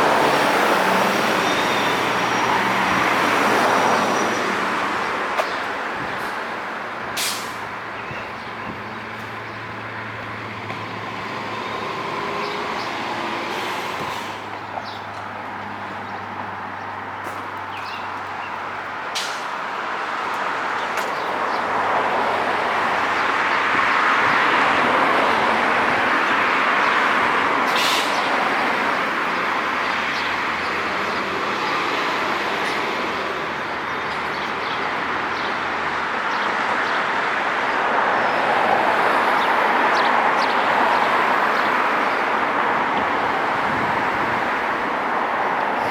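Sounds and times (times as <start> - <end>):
vehicles passing: 0.0 - 45.9.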